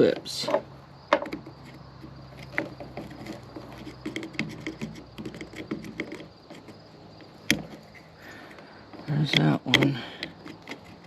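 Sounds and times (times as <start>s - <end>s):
plastic clips scratching and clicking: 1.2s - 11.0s.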